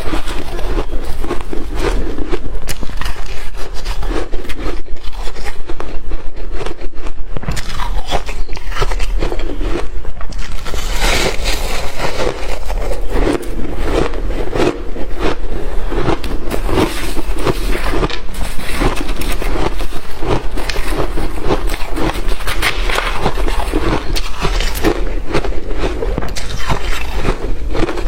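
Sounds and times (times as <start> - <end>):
chewing icy frost: 0.0 - 28.0.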